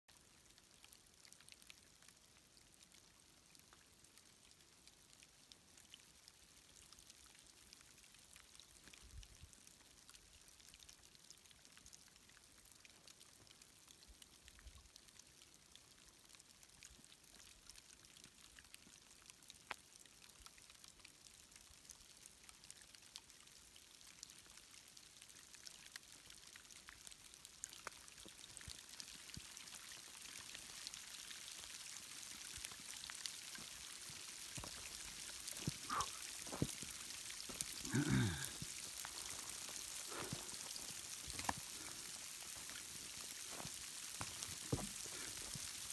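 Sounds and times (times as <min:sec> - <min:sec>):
patter of falling snow: 0:00.1 - 0:45.9.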